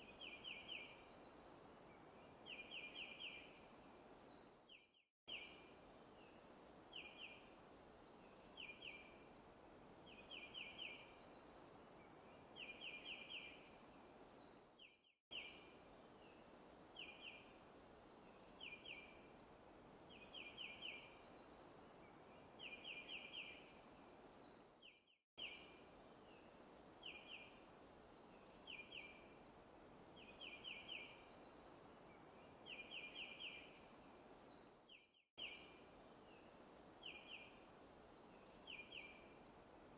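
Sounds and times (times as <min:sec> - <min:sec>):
soft steady hiss: 0:00.0 - 0:39.9.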